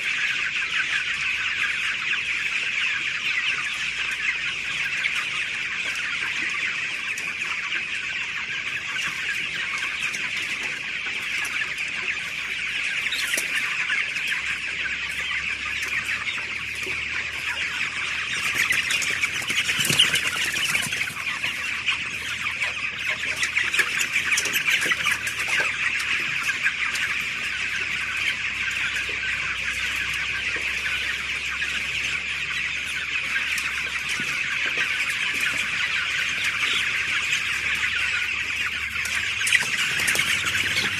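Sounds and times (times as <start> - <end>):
chicks peeping and clucking: 0.0 - 40.9.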